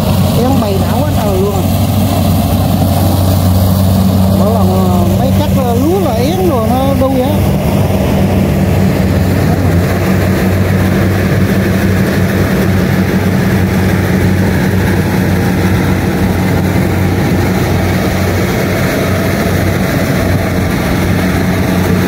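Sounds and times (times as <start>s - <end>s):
combine harvester engine droning: 0.0s - 22.0s.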